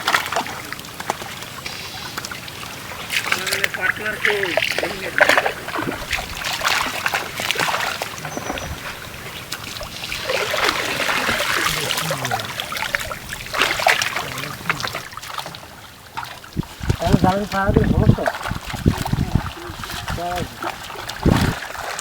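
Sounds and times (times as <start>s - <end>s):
water splashing: 0.0s - 22.0s.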